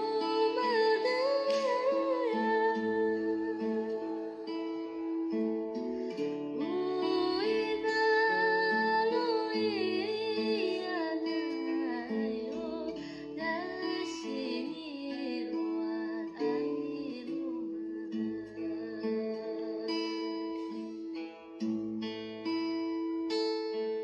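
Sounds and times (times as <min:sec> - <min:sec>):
plucked acoustic guitar music: 0:00.0 - 0:24.0.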